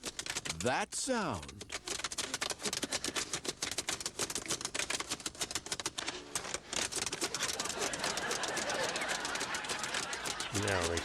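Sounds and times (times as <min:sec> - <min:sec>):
fast irregular clicking: 0:00.0 - 0:11.0.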